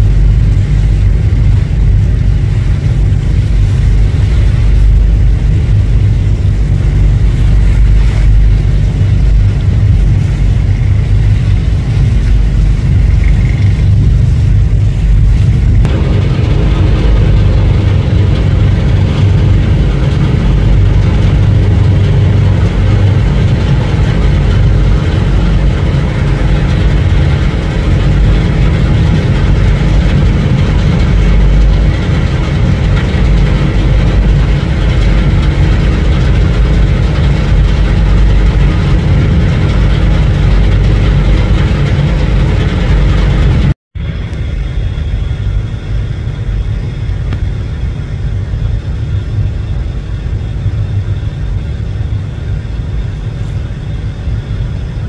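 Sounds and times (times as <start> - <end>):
ship engine rumble: 0.0 - 55.0.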